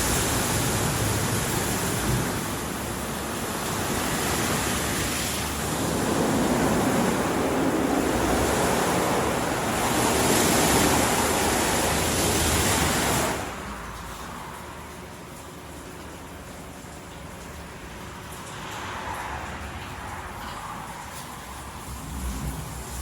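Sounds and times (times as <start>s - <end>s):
car wash water spray rushing: 0.0s - 23.0s.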